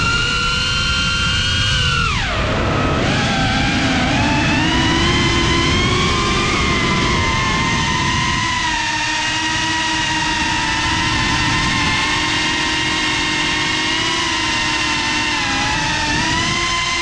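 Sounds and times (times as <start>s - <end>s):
drone motors whining: 0.0s - 17.0s
wind rumble: 0.0s - 17.0s.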